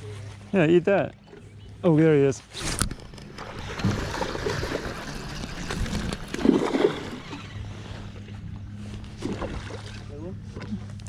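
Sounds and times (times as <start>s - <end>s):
boat motor humming: 0.0s - 11.0s
wind: 0.0s - 11.0s
water noise: 1.1s - 11.0s.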